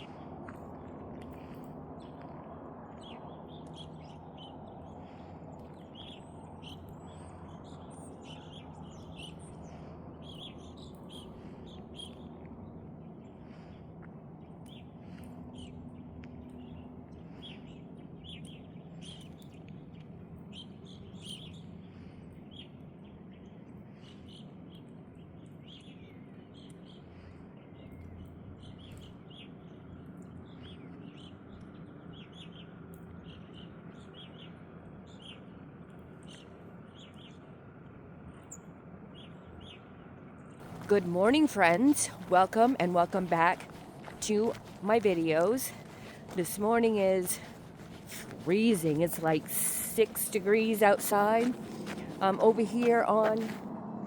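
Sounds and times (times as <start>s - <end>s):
low background rumble: 0.0s - 54.0s
small birds chirping: 2.9s - 35.5s, 40.6s - 53.6s.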